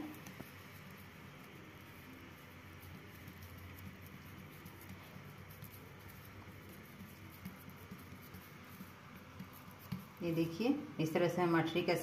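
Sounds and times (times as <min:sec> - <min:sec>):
fingers pressing dough: 0:00.0 - 0:10.6
low steady hum: 0:00.0 - 0:12.0.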